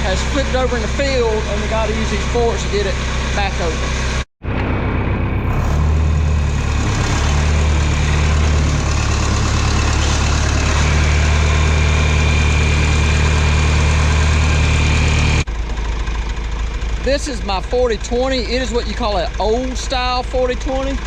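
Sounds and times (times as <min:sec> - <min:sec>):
tractor engine idling: 0:00.0 - 0:21.0.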